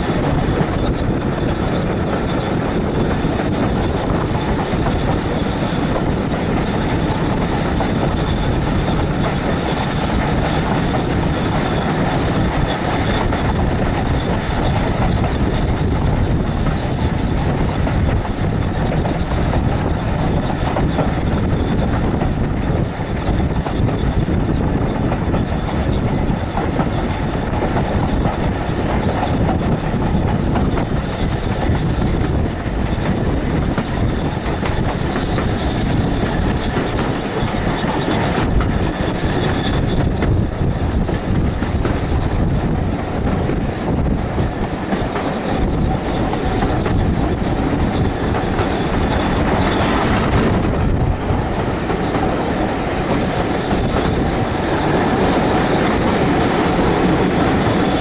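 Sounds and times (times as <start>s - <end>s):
train wheels running on track: 0.0s - 58.0s.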